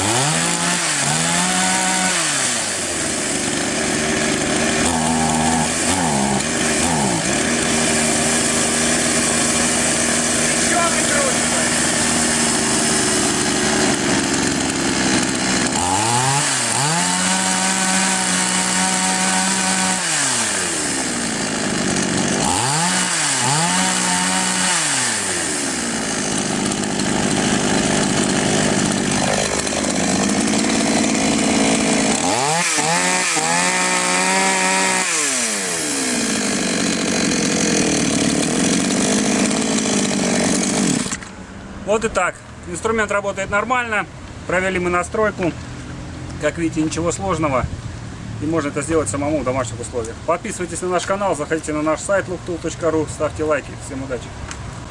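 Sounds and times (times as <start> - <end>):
chainsaw engine idling and revving: 0.0 - 41.4, 48.4 - 54.9.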